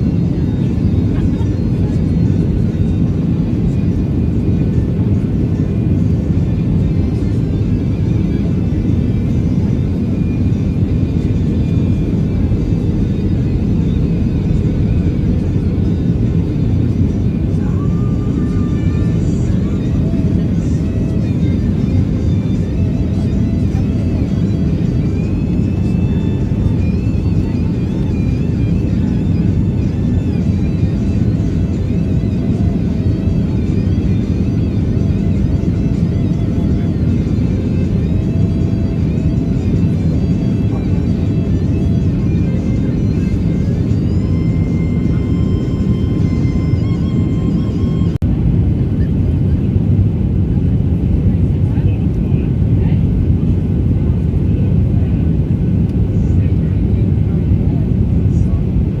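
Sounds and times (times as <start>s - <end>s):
airplane cabin rumble: 0.0s - 59.0s
faint music: 0.0s - 59.0s.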